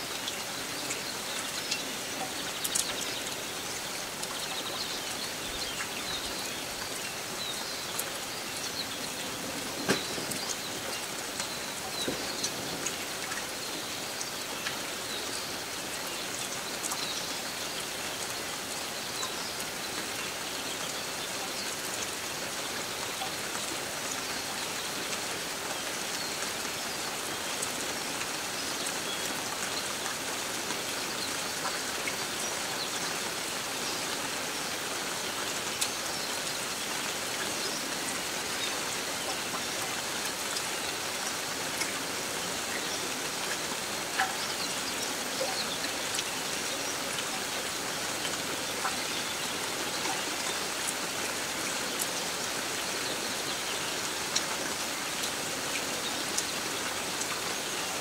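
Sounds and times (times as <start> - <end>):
steady rain on leaves: 0.0 - 58.0.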